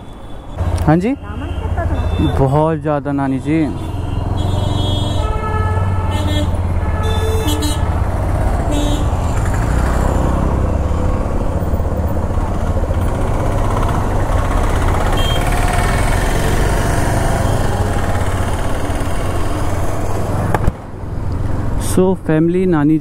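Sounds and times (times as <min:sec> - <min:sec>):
motorcycle engine rumble: 0:00.0 - 0:22.4
road and wind noise: 0:00.0 - 0:23.0.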